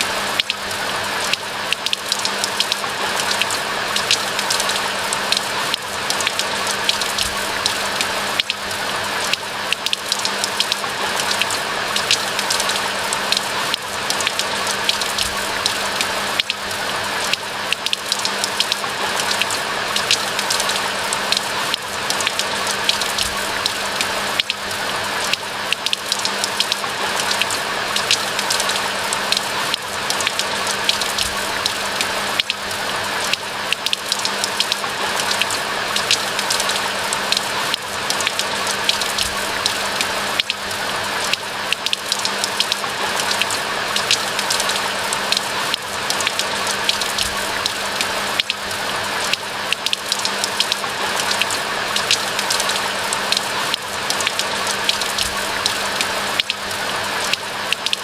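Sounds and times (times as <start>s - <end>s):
steady rain hiss: 0.0s - 58.0s
raindrop ticks: 0.1s - 58.0s.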